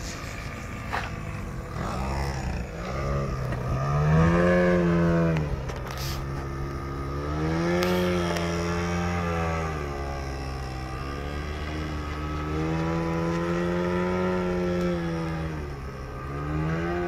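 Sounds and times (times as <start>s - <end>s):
model airplane motor buzzing: 0.0s - 17.0s.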